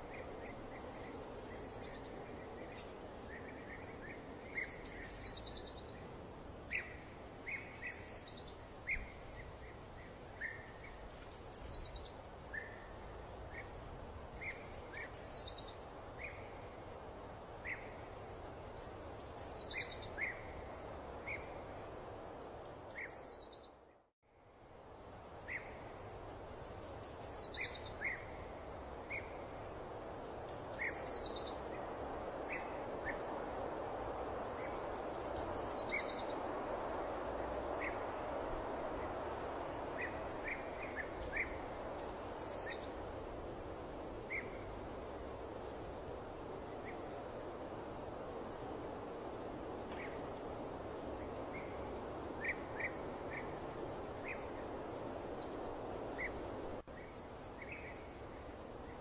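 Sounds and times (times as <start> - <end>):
small birds chirping: 0.0 - 24.0, 25.3 - 59.0.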